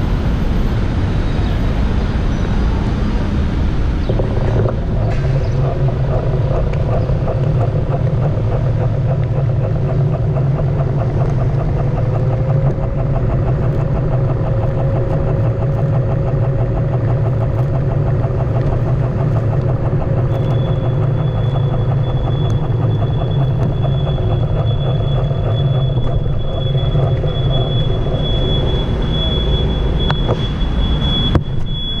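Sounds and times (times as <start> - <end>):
wheel rumbling on pavement: 0.0 - 32.0
faint tone rising and falling: 4.1 - 32.0.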